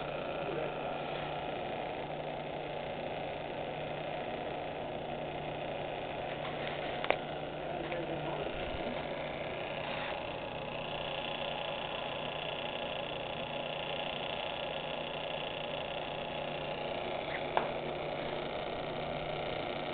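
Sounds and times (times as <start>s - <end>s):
electric motor humming: 0.0s - 19.9s.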